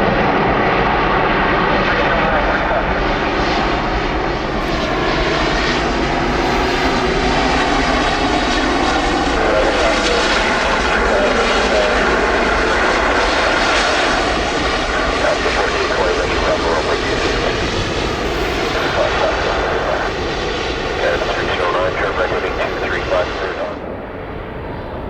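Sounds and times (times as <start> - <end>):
aircraft engines rushing: 0.0 - 25.0
faint steady whine: 1.8 - 24.0.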